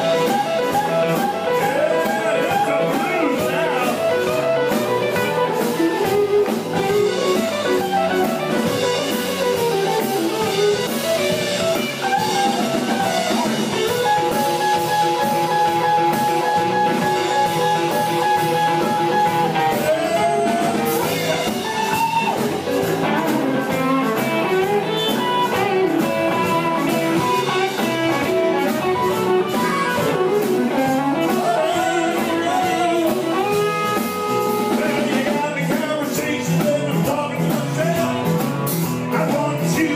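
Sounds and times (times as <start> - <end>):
bass: 0.0 - 39.9
drums: 0.0 - 39.9
lead electric guitar: 0.0 - 39.9.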